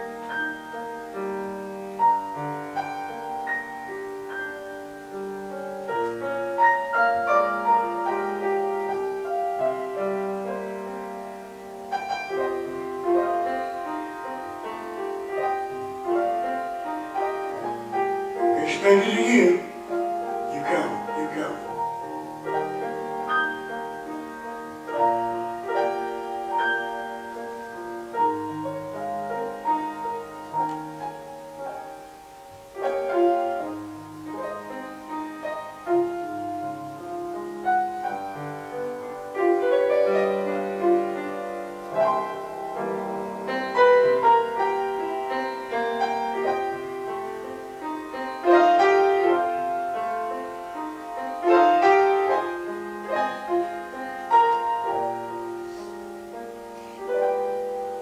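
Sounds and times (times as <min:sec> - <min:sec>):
piano playing hymn chords: 0:00.0 - 0:58.0.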